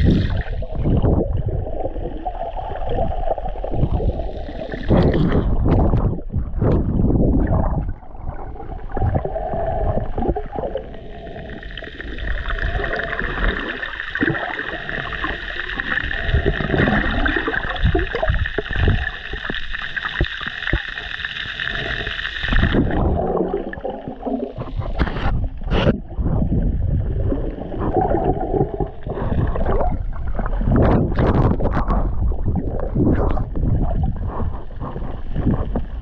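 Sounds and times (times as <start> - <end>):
underwater sloshing and gurgling: 0.0 - 36.0.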